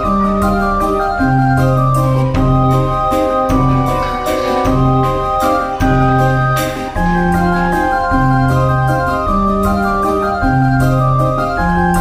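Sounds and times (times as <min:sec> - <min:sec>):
organ chords: 0:00.0 - 0:12.0.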